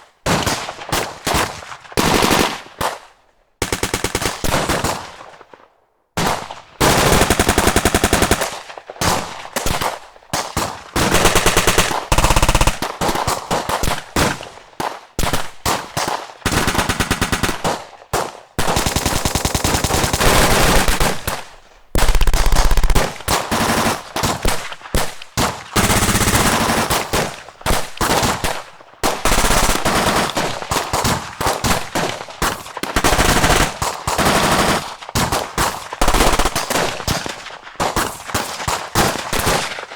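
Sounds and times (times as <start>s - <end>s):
automatic gunfire bursts: 1.3s - 2.8s, 3.6s - 5.2s, 6.2s - 14.6s, 15.2s - 39.8s.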